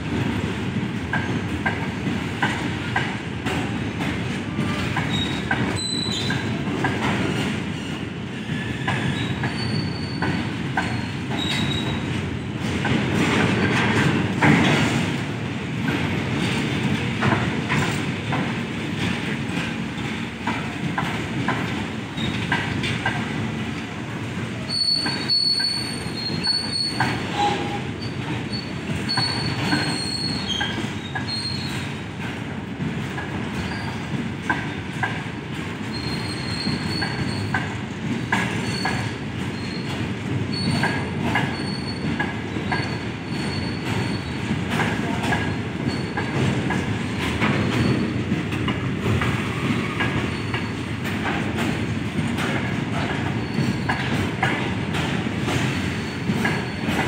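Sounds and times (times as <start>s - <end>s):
goods train rumbling past: 0.0s - 57.0s.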